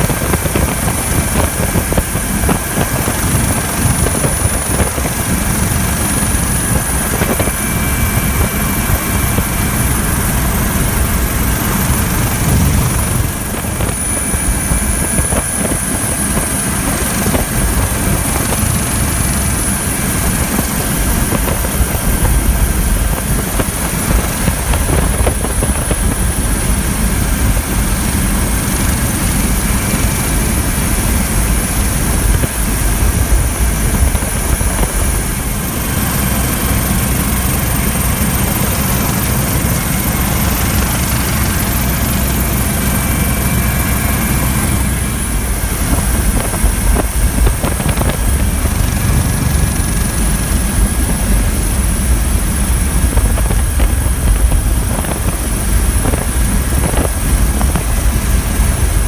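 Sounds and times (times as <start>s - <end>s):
helicopter rotor and turbine: 0.0s - 59.0s
high whine: 0.0s - 59.0s.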